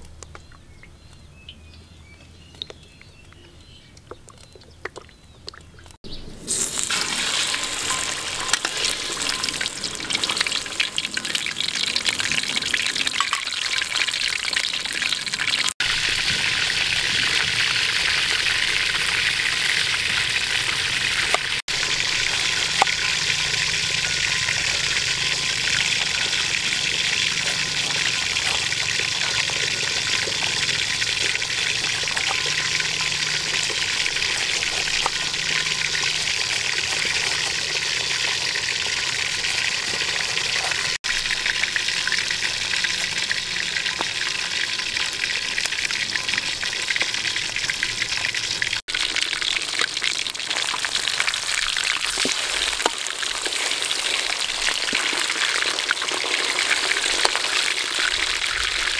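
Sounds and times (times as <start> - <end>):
fish sizzling in oil: 6.3 - 58.9.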